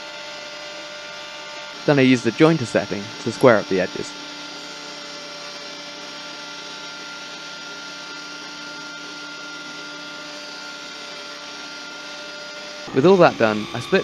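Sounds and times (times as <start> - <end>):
planer thicknesser humming: 0.0 - 14.0.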